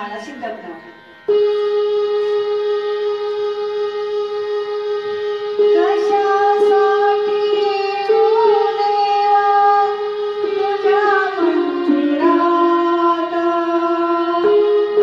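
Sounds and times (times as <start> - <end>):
electronic keyboard drone: 0.0 - 15.0
woman singing devotional song: 2.4 - 15.0.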